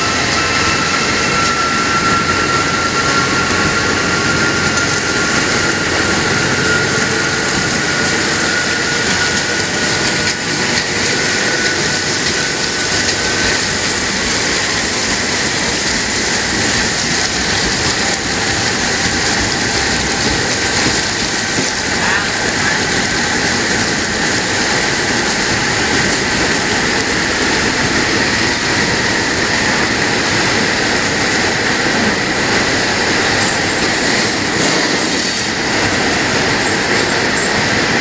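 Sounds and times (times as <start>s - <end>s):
train splashing through water: 0.0s - 38.0s.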